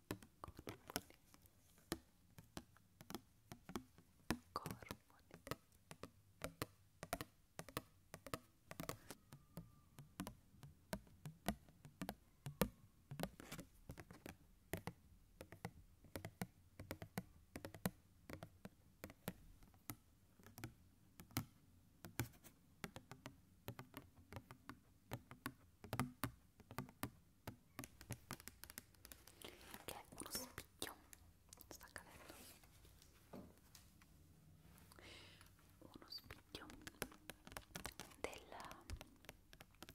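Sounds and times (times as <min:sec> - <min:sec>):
fingernails tapping on card: 0:01.9 - 0:31.1, 0:36.3 - 0:39.9.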